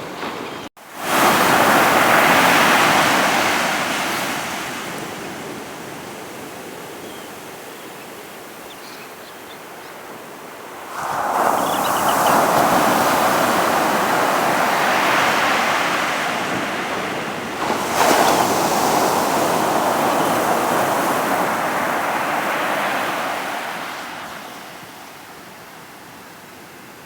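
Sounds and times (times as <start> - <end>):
sea waves breaking on beach: 0.0 - 7.6, 10.1 - 25.5.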